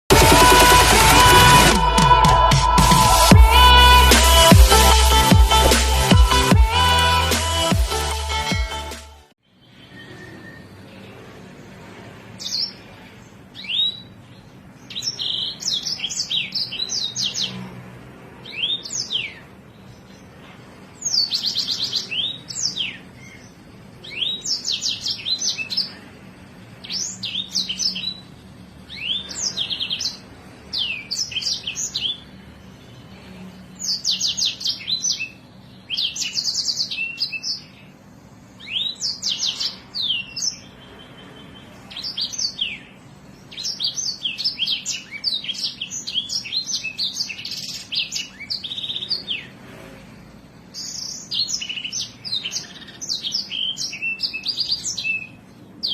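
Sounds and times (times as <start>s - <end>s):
songbird singing: 9.4s - 49.9s, 50.5s - 55.9s.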